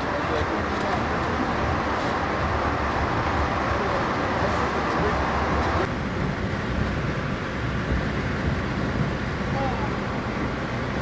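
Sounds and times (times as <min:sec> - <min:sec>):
train rumbling from inside: 0:00.0 - 0:11.0.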